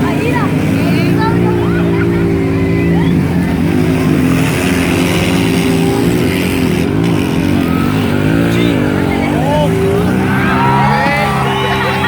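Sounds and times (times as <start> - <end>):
atv and motorcycle engines revving: 0.0 - 12.0.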